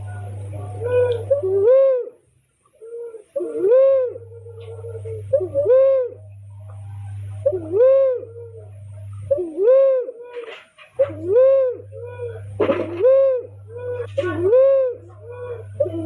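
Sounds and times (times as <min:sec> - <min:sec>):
dove cooing: 0:00.0 - 0:16.0
low steady hum: 0:00.0 - 0:16.0.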